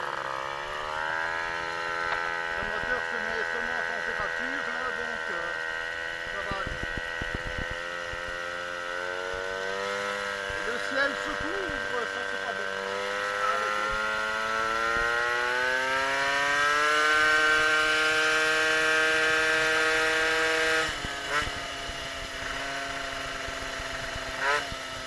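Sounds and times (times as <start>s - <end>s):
two-stroke moped engine revving: 0.0s - 25.0s.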